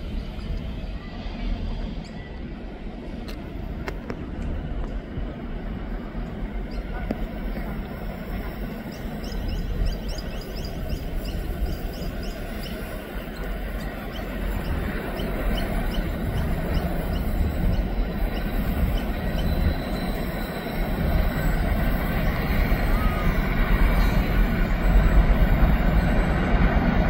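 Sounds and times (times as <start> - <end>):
diesel locomotive engine rumble: 0.0 - 27.0.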